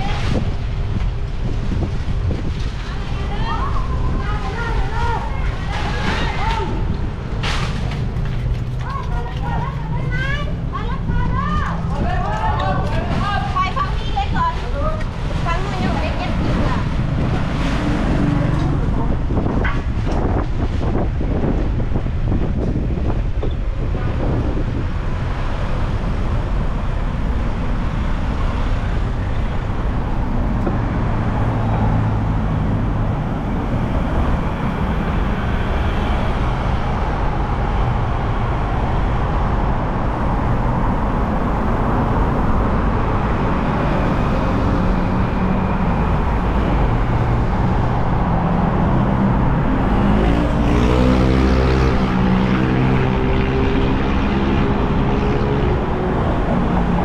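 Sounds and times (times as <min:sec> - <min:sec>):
traffic rumble of engines and tyres: 0:00.0 - 0:57.0.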